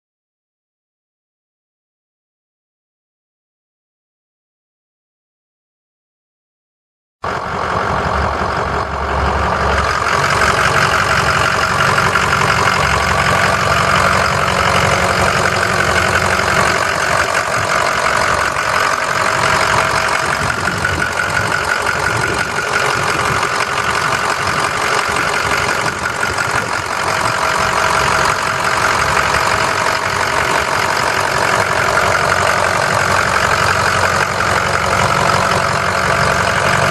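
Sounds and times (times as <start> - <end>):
diesel engine idling: 7.2 - 36.9.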